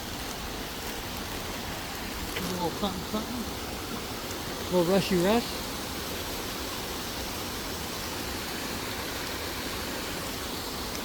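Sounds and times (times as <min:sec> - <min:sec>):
small stream rushing: 0:00.0 - 0:11.0.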